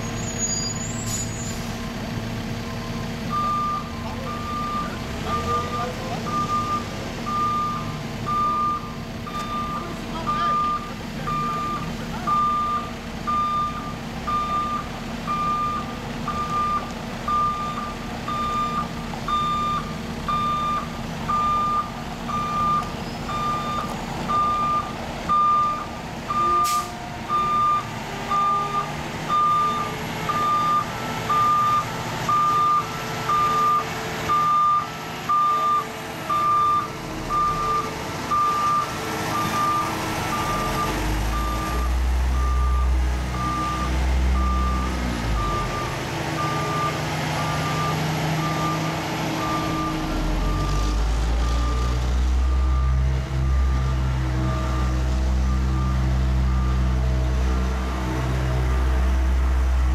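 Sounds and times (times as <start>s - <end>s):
diesel truck engine running: 0.0s - 59.9s
backup alarm beeping: 2.8s - 51.0s.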